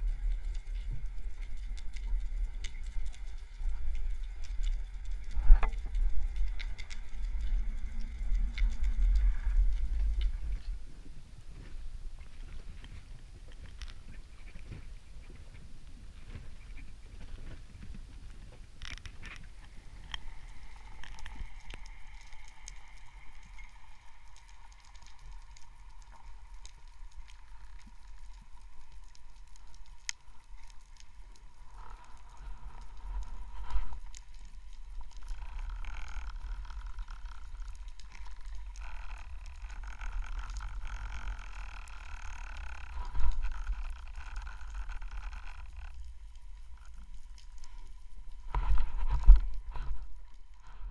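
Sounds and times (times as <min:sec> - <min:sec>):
faint steady whine: 0:00.0 - 0:50.9
muffled underwater water rumble: 0:00.0 - 0:50.9.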